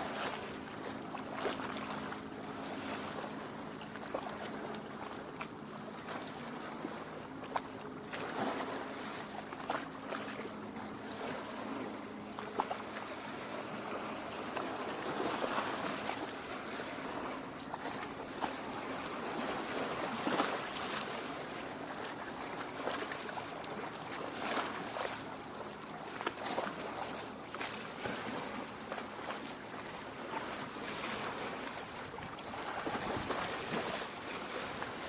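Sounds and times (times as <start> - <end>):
lake waves lapping on shore: 0.0 - 35.0.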